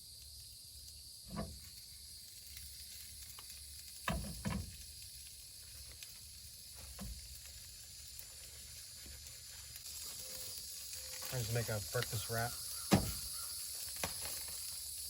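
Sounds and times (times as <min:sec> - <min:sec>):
camp stove hissing: 0:00.0 - 0:15.0.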